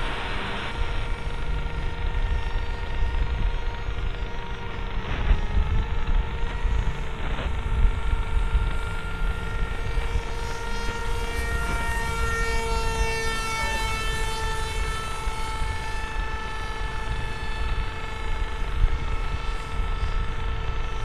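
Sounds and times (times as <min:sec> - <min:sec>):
electric motor and propeller whining: 0:00.0 - 0:21.0
wind on microphone: 0:00.0 - 0:21.0.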